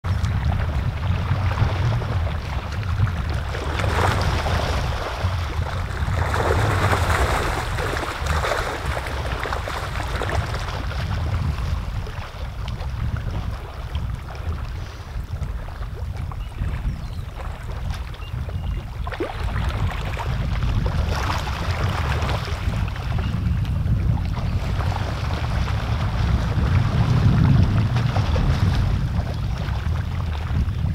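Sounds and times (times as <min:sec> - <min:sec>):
steady low rumble: 0:00.0 - 0:30.9
wind buffeting microphone: 0:00.0 - 0:30.9.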